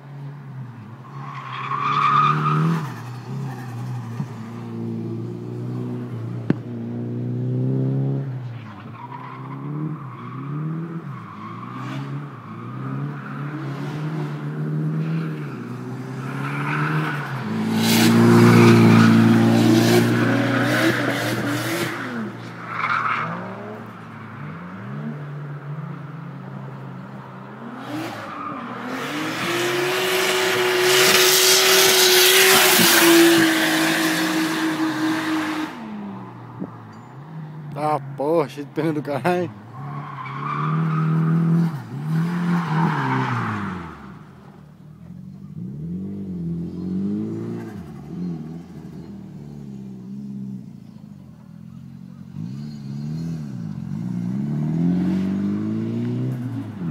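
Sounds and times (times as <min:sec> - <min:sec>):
tyres squealing and skidding: 0:01.0 - 0:04.8, 0:08.4 - 0:25.8, 0:26.6 - 0:36.0, 0:38.9 - 0:50.3, 0:51.6 - 0:56.9
car engine revving: 0:01.8 - 0:36.2, 0:40.0 - 0:51.0, 0:51.6 - 0:56.9.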